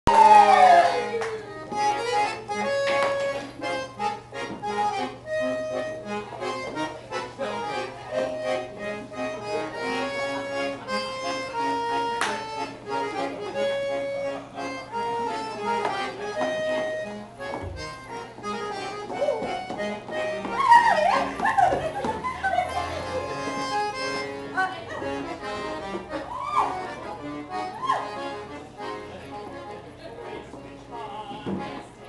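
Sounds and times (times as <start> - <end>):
accordion playing a tune: 0.1 - 32.0.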